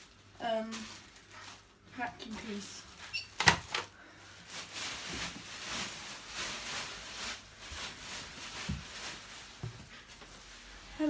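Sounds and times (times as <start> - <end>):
packaging rustling: 0.0 - 10.7.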